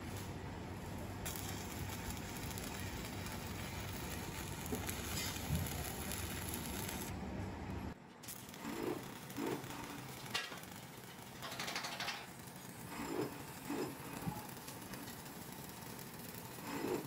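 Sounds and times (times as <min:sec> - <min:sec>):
welding arc crackling and hissing: 0:00.0 - 0:07.1, 0:08.2 - 0:17.0.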